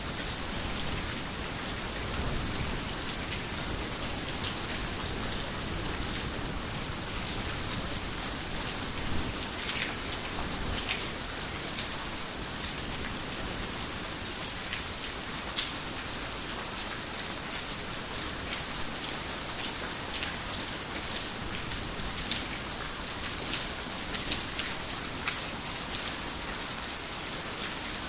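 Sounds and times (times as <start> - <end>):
heavy rain on a roof: 0.0 - 28.0.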